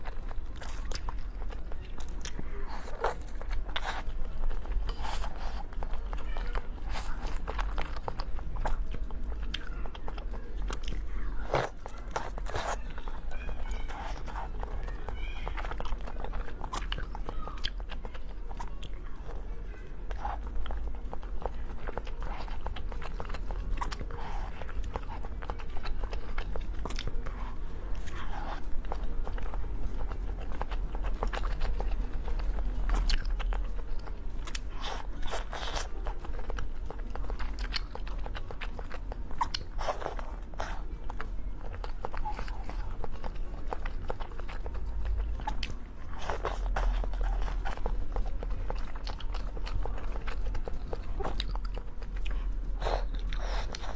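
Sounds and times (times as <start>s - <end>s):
chewing and crunching food: 0.0s - 53.9s
steady low hum: 0.0s - 53.9s.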